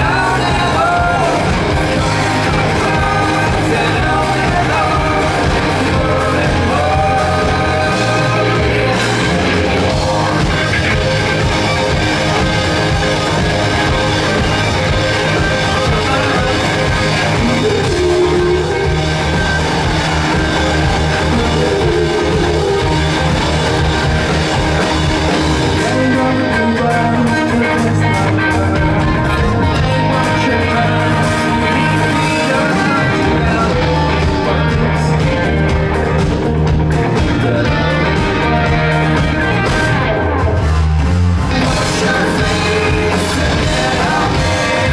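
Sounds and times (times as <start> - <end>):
bass: 0.0 - 44.9
drum kit: 0.0 - 44.9
electric guitars: 0.0 - 44.9.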